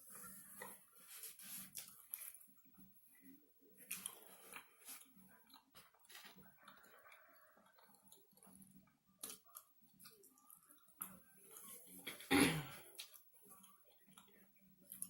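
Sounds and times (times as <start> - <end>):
person chewing food: 0.5 - 2.8, 3.8 - 11.8, 13.0 - 15.0.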